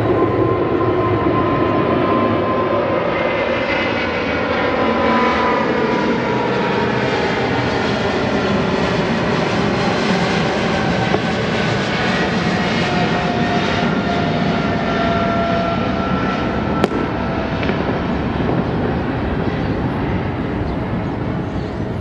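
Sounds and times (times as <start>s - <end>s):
jet engines roaring at takeoff: 0.0s - 22.0s.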